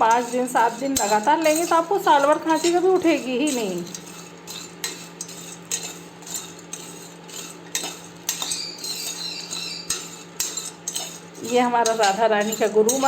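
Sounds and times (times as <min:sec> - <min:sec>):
metal spoon stirring in a pan: 0:00.0 - 0:13.0.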